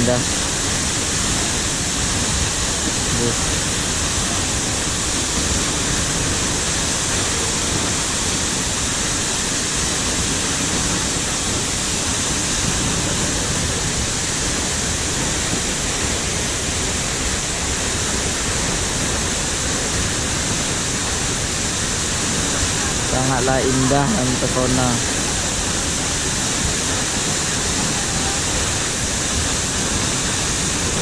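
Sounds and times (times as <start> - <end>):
waterfall roaring: 0.0 - 31.0.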